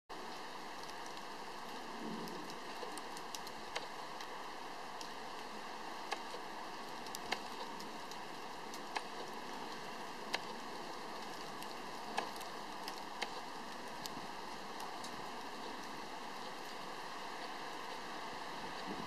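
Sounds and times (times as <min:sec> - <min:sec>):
hail hissing on soil: 0:00.1 - 0:19.0
hailstones clicking: 0:00.2 - 0:19.0.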